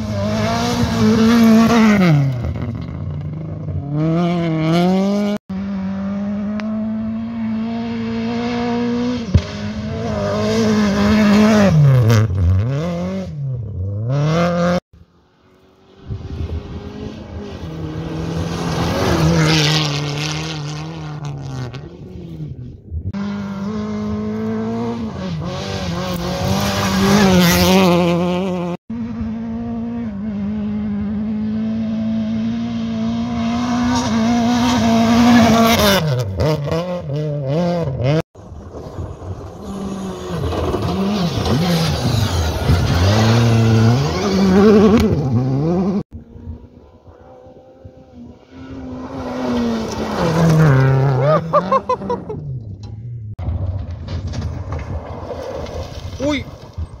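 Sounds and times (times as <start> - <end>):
rally car engines revving: 0.0 - 53.3.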